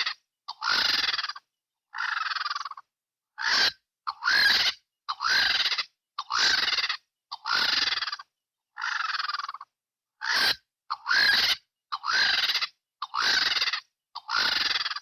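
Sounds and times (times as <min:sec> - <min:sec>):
vulture calling: 0:00.0 - 0:15.0.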